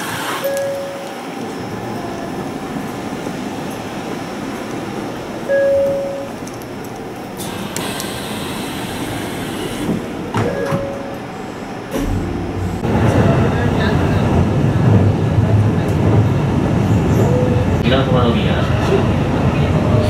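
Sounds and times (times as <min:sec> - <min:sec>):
train interior hum and rumble: 0:00.0 - 0:20.0.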